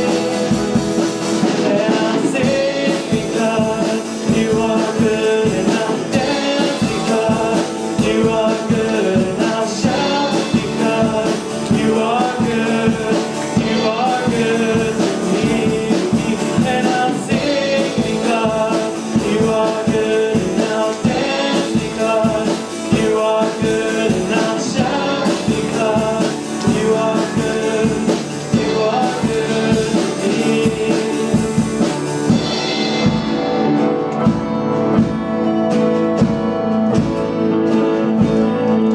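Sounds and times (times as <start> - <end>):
worship song with guitar and drums: 0.0 - 38.9.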